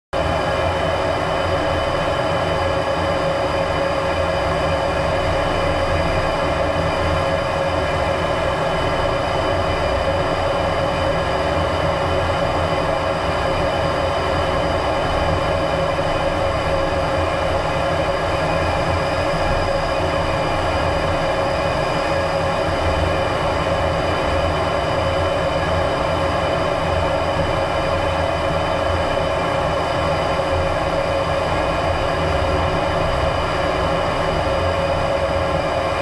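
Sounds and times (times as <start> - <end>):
steady whining tones: 0.2 - 36.0.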